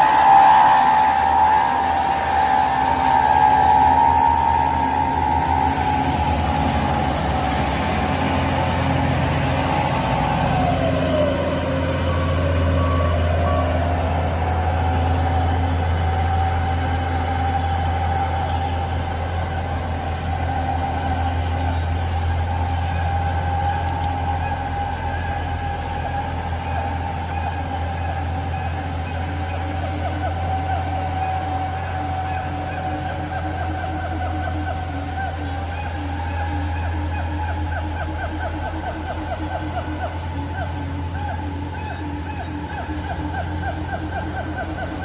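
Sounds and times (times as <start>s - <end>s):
diesel trucks driving past: 0.0s - 45.0s.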